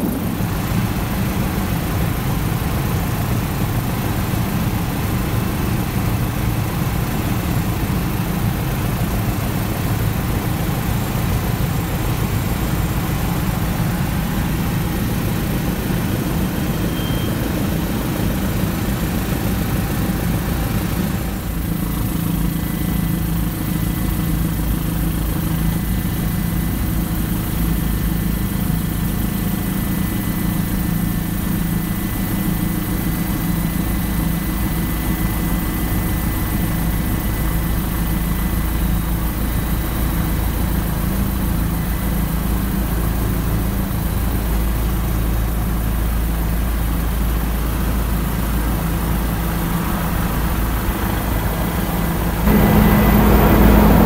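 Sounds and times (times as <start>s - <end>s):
helicopter engine and rotor: 0.0s - 54.0s
faint high whine: 8.8s - 54.0s.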